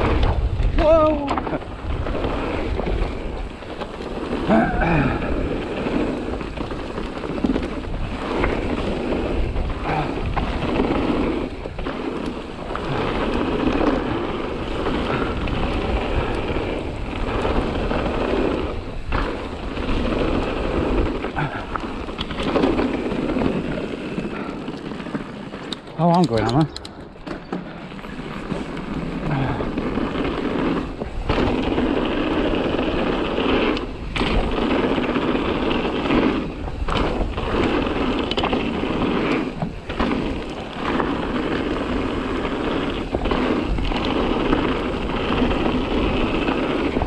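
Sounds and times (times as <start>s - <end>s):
tyres rolling over gravel: 0.0s - 47.0s
wind rumbling on microphone: 0.0s - 47.0s.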